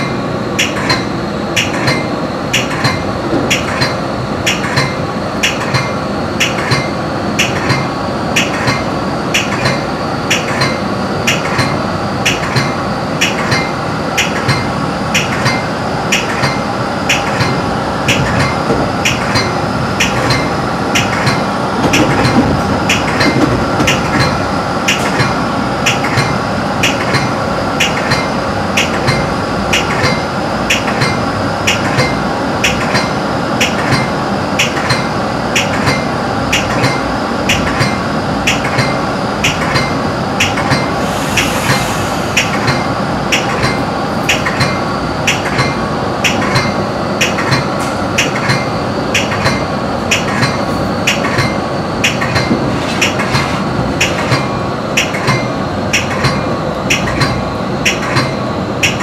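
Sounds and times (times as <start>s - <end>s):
train rumbling on track: 0.0s - 59.0s.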